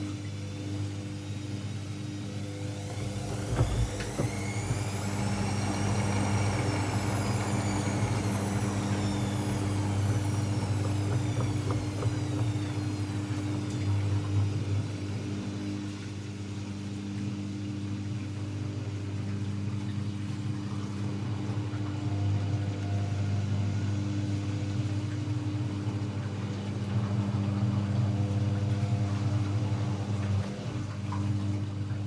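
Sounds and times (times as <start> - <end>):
washing machine hum: 0.0 - 32.0.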